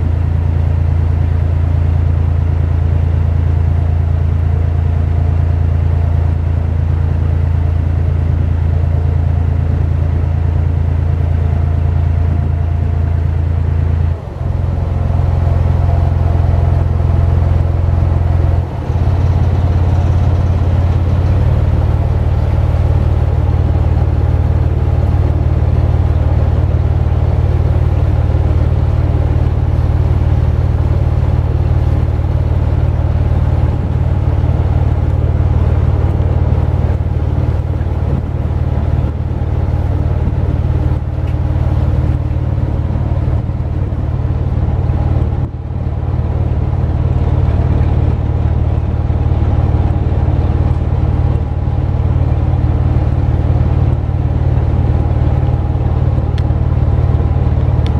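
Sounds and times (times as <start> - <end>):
boat engine droning: 0.0 - 57.9.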